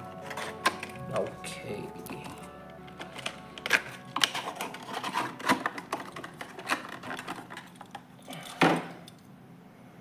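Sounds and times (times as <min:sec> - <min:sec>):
plastic packaging crackling: 0:00.0 - 0:08.0.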